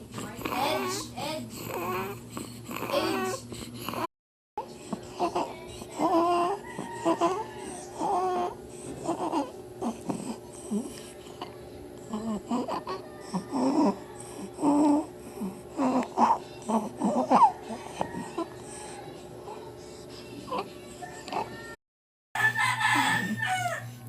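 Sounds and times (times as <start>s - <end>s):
baby fussing and crying: 0.1s - 21.7s.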